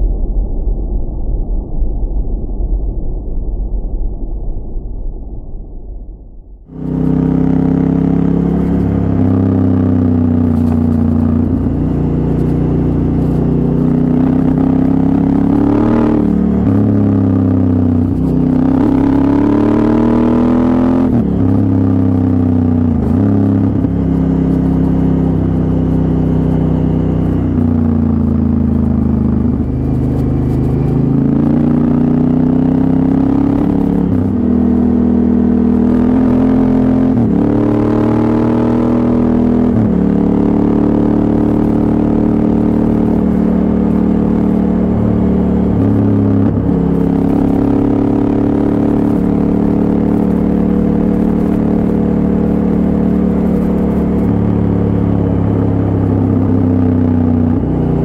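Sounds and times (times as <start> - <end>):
motorcycle engine revving: 6.6 - 58.0.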